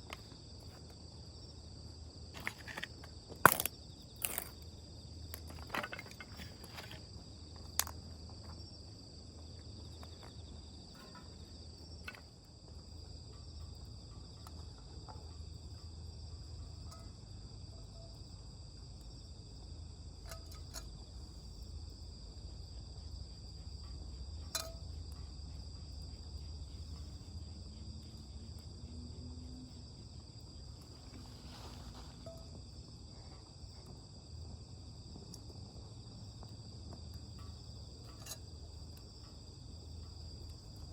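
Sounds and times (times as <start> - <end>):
insects chirping: 0.0 - 40.9.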